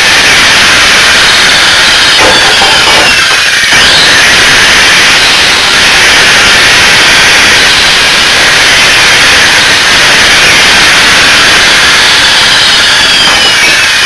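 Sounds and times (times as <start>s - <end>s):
angle grinder cutting metal: 0.0s - 14.0s.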